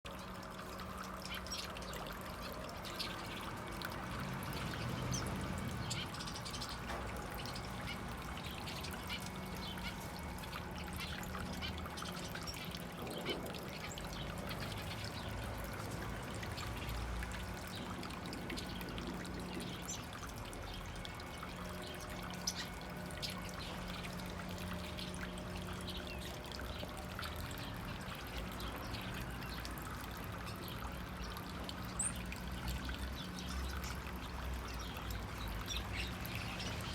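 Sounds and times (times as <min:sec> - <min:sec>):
birds splashing in water: 0:00.1 - 0:36.9
water trickling and pouring: 0:00.1 - 0:36.9.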